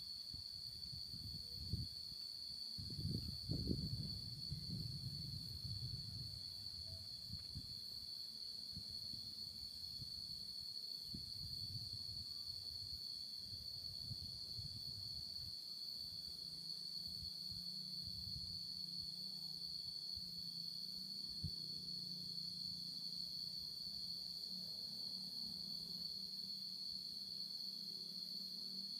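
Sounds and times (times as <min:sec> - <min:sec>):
insects buzzing: 0:00.0 - 0:28.9.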